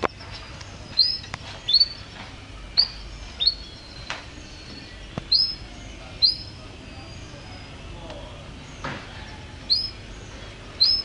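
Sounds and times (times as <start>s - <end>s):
canary chirping: 0.0s - 7.9s, 8.6s - 11.0s.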